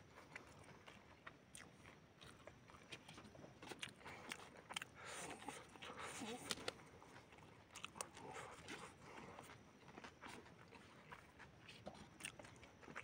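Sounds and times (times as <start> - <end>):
faint chewing and biting: 0.0 - 13.0.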